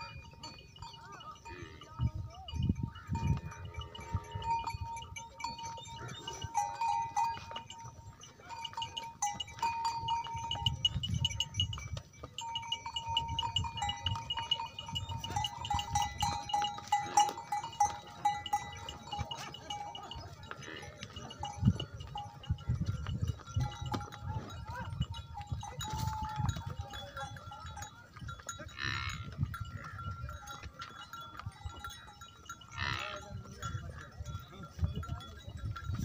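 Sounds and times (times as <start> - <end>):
animal bells clanking: 0.0 - 36.0.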